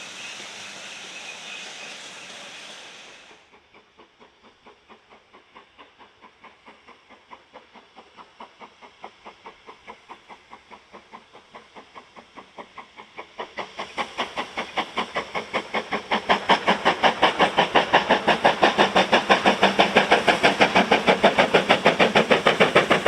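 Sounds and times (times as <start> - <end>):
loud steam hiss: 0.0 - 3.6, 5.0 - 23.0
steam locomotive exhaust beats: 0.0 - 23.0.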